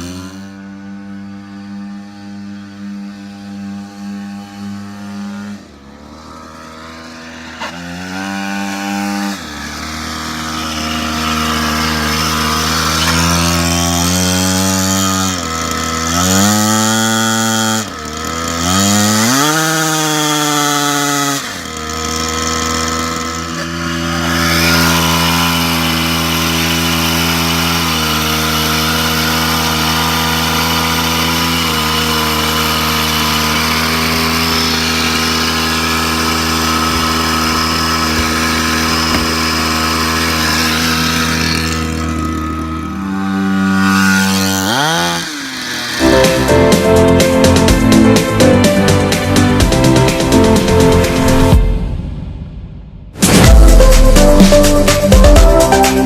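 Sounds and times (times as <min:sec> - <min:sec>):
dirt bike engine revving: 0:00.0 - 0:51.9, 0:53.1 - 0:56.0.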